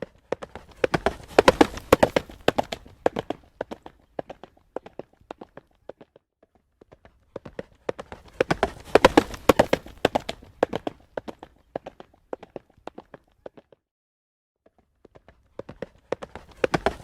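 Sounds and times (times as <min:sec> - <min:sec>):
horse hooves trotting on road: 0:00.0 - 0:13.8, 0:14.9 - 0:17.0.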